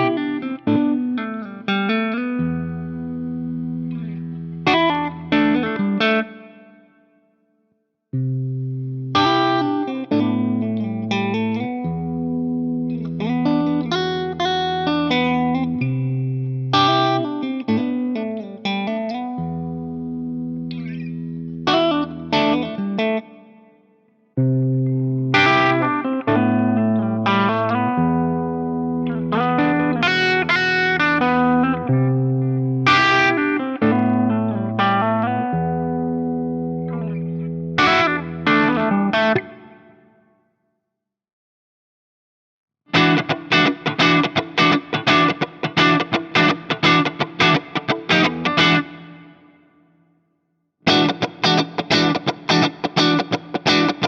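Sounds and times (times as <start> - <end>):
guitar through effects: 0.0 - 40.5, 42.9 - 50.2, 50.8 - 54.0.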